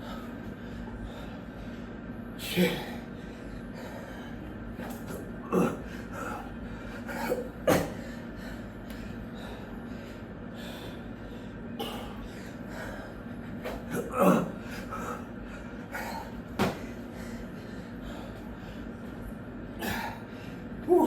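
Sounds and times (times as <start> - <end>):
man breathing hard and gasping: 0.0 - 19.0
faint steady hum: 0.0 - 21.0.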